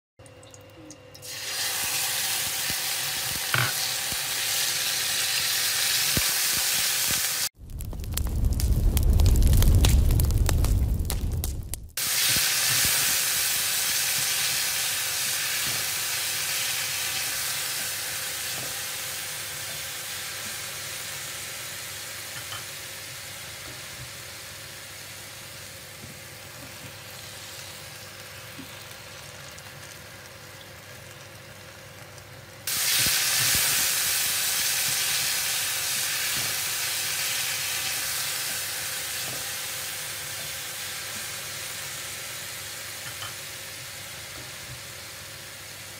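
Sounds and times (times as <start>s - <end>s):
beef sizzling in a frying pan: 1.2s - 45.9s.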